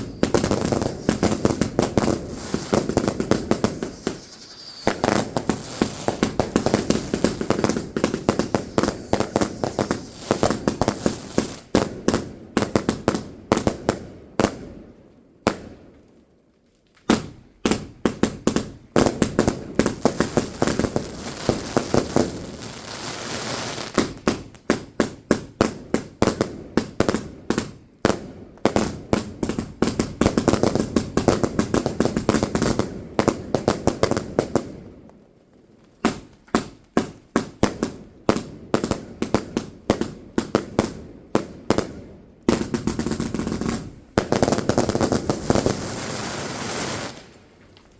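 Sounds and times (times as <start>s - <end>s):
fireworks bangs and crackles: 0.0s - 16.0s, 17.1s - 35.2s, 36.0s - 47.6s.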